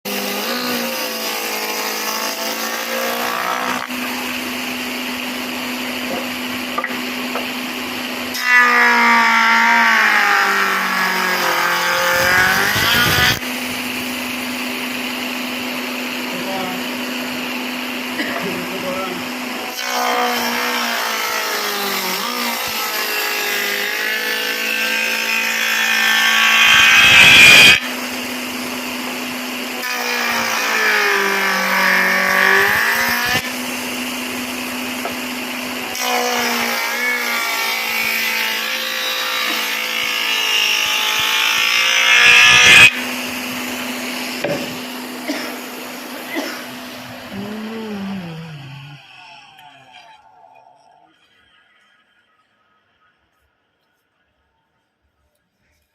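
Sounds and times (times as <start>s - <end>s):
power tool cutting wood: 0.1s - 52.3s.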